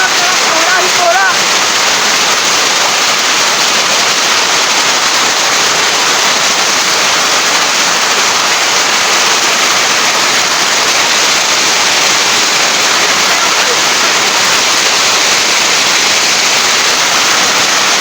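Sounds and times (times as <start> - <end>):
hail and heavy rain: 0.0 - 18.0.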